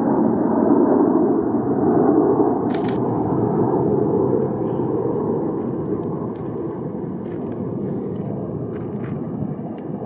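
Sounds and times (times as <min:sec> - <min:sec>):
distant jet rumble: 0:00.0 - 0:10.0.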